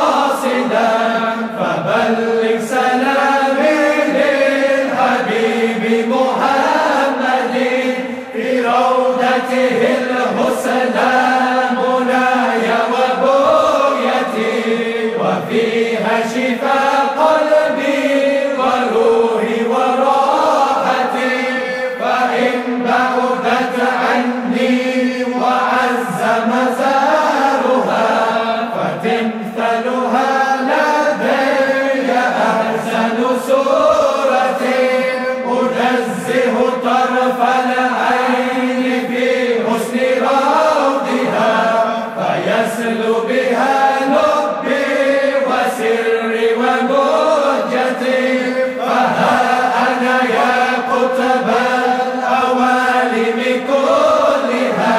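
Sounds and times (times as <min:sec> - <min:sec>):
devotional chanting: 0:00.0 - 0:54.9.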